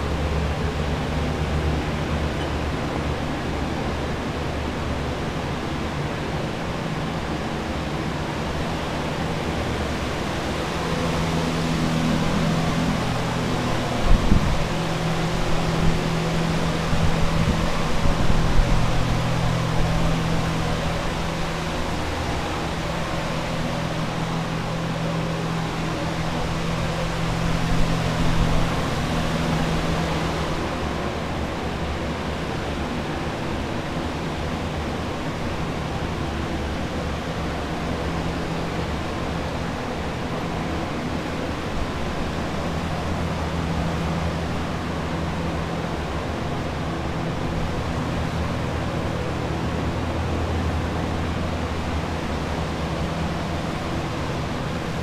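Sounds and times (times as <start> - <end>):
drying fans whooshing: 0.0 - 55.0
low steady hum: 0.0 - 55.0.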